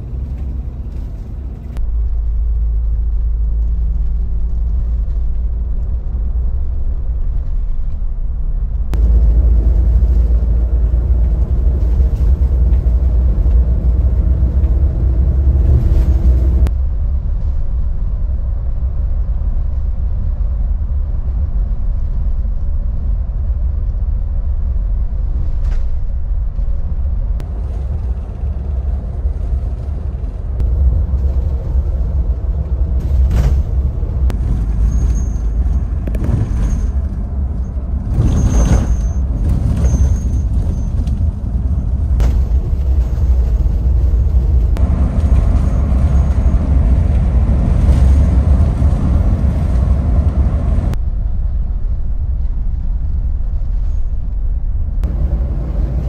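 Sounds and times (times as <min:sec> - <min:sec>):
bus engine and tyre rumble: 0:00.0 - 0:56.0.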